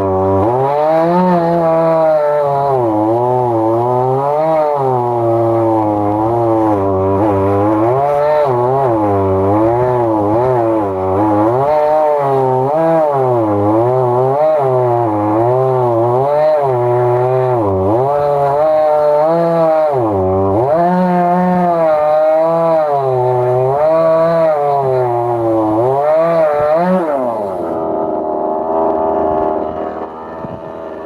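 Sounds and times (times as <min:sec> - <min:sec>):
chainsaw cutting through log: 0:00.0 - 0:31.0.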